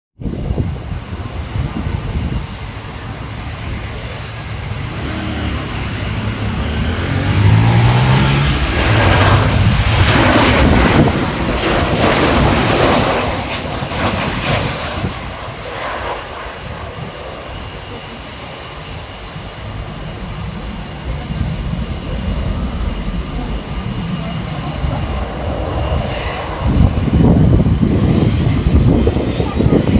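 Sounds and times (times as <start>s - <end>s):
jet engines passing close: 0.2s - 29.9s.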